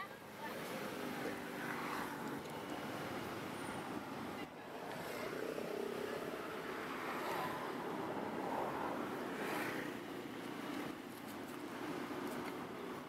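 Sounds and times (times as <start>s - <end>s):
motor vehicle traffic noise: 0.0s - 13.0s.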